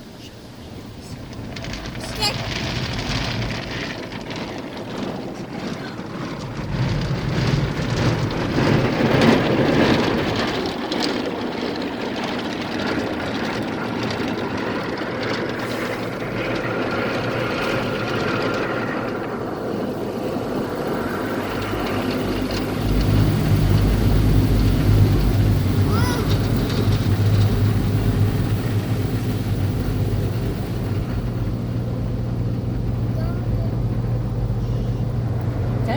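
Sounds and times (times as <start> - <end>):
car wash spray and machinery: 0.0 - 35.9
low rumble: 1.0 - 11.1, 12.2 - 35.9.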